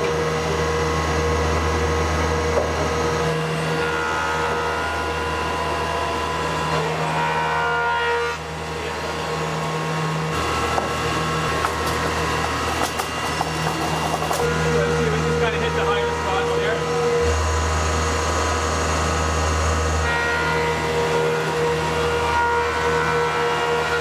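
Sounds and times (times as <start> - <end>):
cutter heads surfacing wood: 0.0 - 24.0
jointer planer humming: 0.0 - 24.0.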